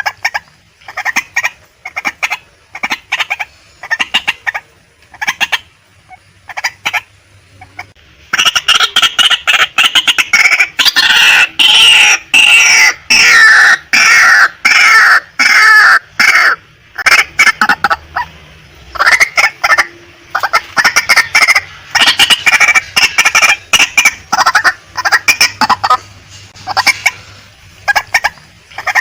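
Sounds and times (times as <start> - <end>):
waterhen calling harshly: 0.0 - 29.0.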